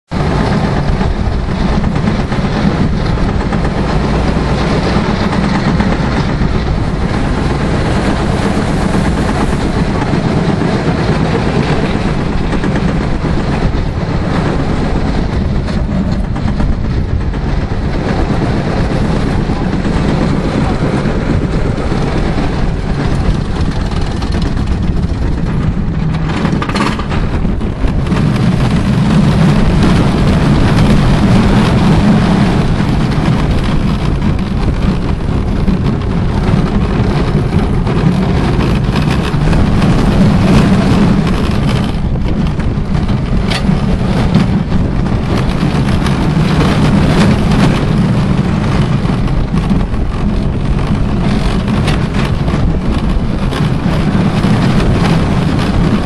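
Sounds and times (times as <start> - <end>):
roller coaster rumbling on track: 0.0 - 56.0.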